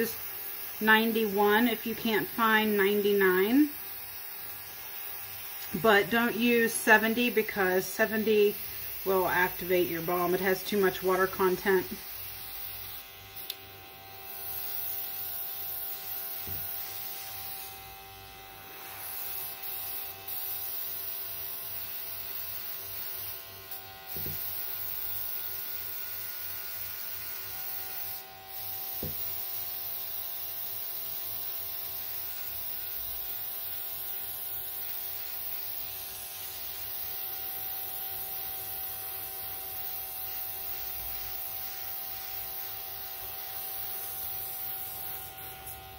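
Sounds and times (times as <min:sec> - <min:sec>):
airbrush hissing: 0:00.0 - 0:13.6, 0:14.2 - 0:17.8, 0:18.8 - 0:23.4, 0:24.1 - 0:26.0, 0:26.6 - 0:37.4, 0:39.8 - 0:45.9
airbrush compressor humming: 0:00.0 - 0:45.9.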